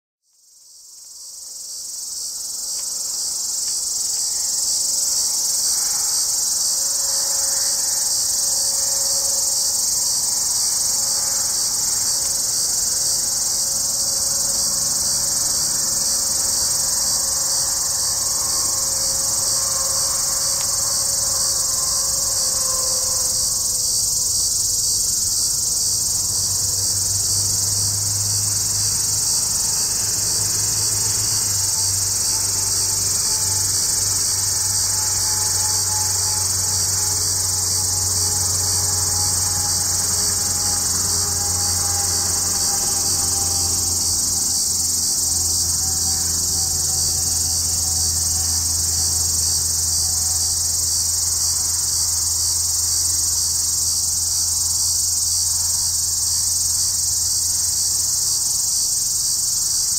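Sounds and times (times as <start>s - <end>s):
cicada buzzing: 0.4s - 59.9s.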